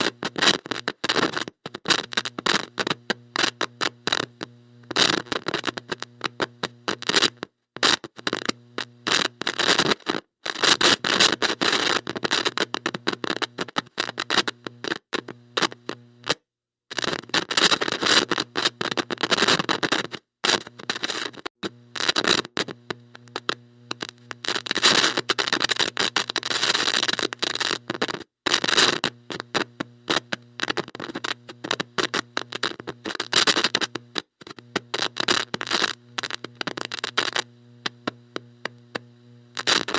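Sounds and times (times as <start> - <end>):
buzzing hum: 0.0 - 39.9
electrical static crackling: 0.0 - 39.9.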